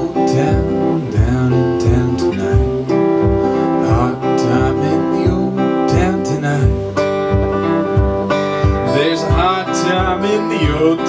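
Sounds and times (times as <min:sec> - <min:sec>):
acoustic guitar folk blues: 0:00.0 - 0:11.0
steady bass beat: 0:00.0 - 0:11.0.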